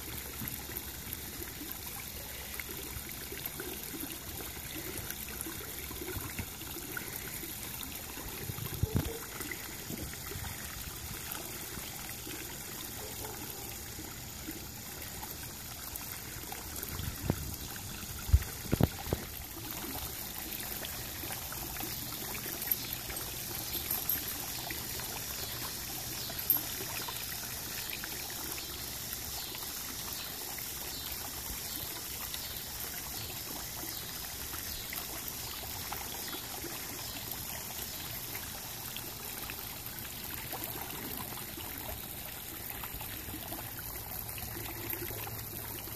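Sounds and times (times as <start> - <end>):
water pouring into pool: 0.0 - 45.9.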